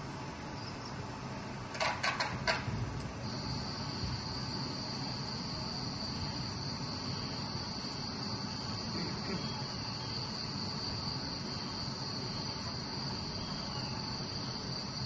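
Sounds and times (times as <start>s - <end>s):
crickets chirring: 0.0s - 15.0s
low steady hum: 0.0s - 15.0s.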